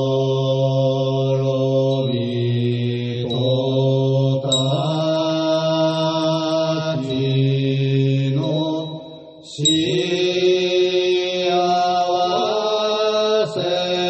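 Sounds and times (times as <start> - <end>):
men chanting: 0.0 - 14.0.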